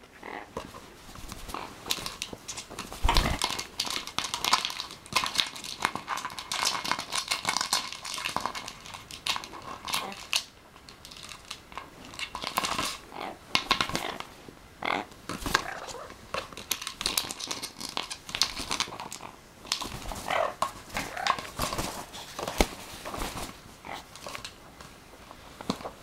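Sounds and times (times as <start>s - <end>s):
wings flapping: 0.6s - 10.5s, 12.2s - 14.3s, 15.3s - 24.6s
plastic bottle crackling: 0.6s - 14.3s, 15.2s - 26.0s.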